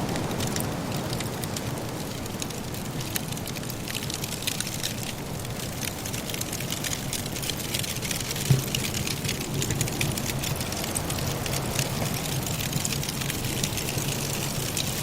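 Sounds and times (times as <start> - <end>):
firewood crackling in fireplace: 0.0 - 15.0.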